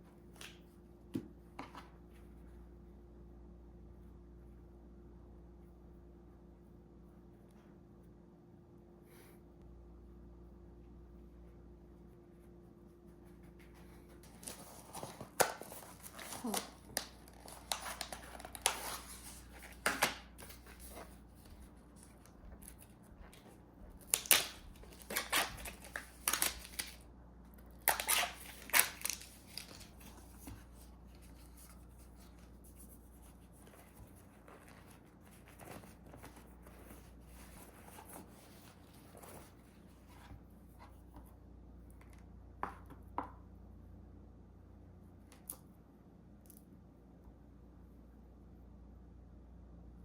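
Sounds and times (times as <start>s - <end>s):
low room hum: 0.0s - 50.0s.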